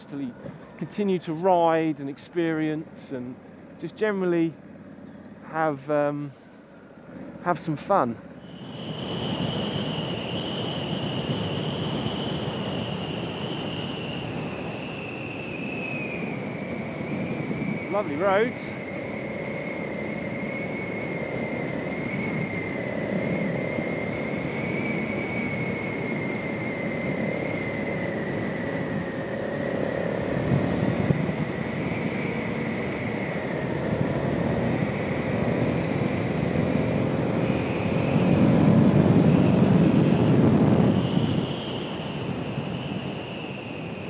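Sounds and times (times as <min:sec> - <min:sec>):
wind rush over microphone: 0:08.5 - 0:44.0.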